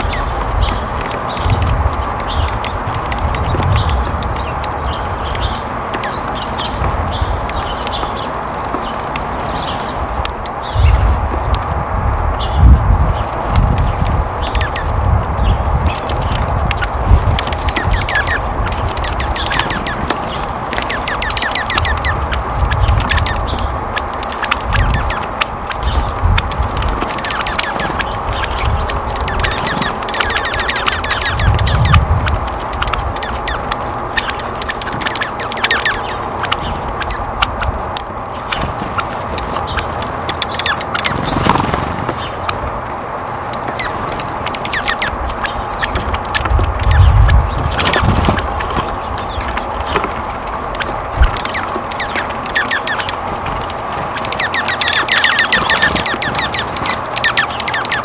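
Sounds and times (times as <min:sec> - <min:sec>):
low rumbles: 0:00.0 - 0:58.0
small birds chirping: 0:00.0 - 0:58.0.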